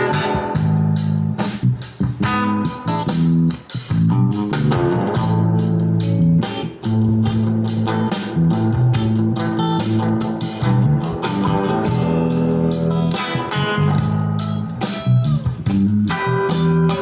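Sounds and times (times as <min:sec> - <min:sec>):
guitar music with bass and drums: 0:00.0 - 0:17.0.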